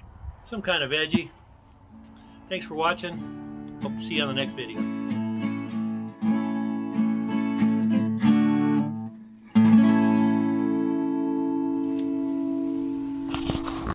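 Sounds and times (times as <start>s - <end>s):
acoustic guitar strumming: 1.9s - 13.9s.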